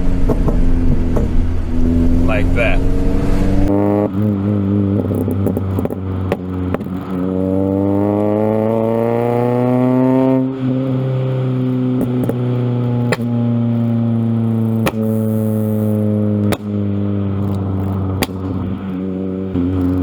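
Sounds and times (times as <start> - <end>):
car engine accelerating: 0.0 - 20.0
exhaust pops: 0.0 - 20.0.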